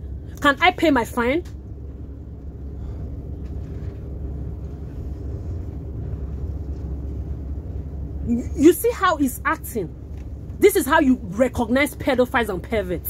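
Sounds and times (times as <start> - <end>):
faint even hum: 0.0 - 13.0
train carriage rumble: 0.0 - 13.0.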